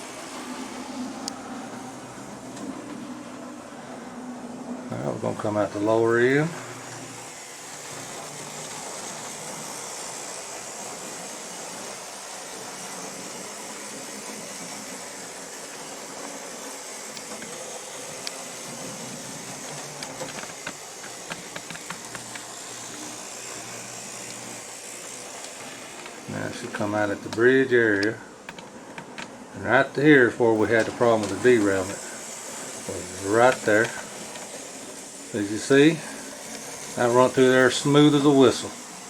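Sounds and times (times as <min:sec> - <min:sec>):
model locomotive whirring: 0:00.0 - 0:39.0.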